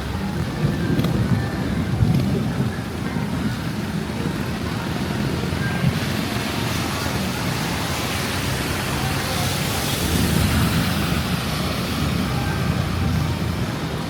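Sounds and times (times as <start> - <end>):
steady rain: 0.0 - 14.0
traffic on wet road: 0.0 - 14.0.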